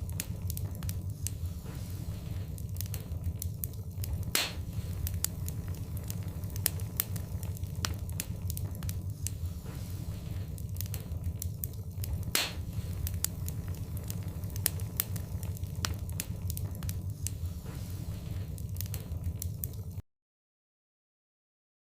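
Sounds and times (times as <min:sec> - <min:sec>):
fireplace fire crackling: 0:00.0 - 0:20.0
low steady rumble of fire: 0:00.0 - 0:20.0
sharp pops of fire: 0:00.0 - 0:20.0.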